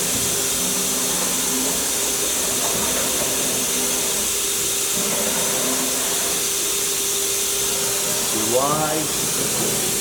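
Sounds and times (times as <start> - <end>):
machining center hiss and hum: 0.0 - 10.0.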